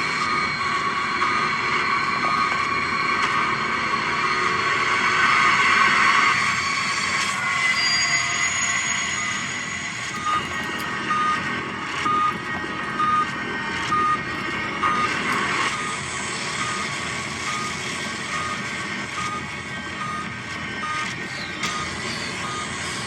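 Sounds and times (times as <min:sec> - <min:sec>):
heart monitor beeping: 0:00.0 - 0:04.6, 0:09.1 - 0:23.0.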